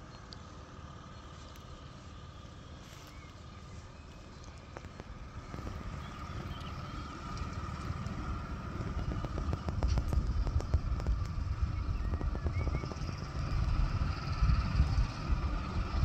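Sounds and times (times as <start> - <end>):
low uneven rumble: 0.0 - 16.0.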